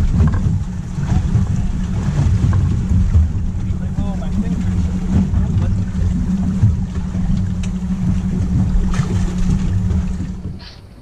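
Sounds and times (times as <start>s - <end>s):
outboard motors idling: 0.0s - 11.0s
wind buffeting microphone: 0.0s - 11.0s.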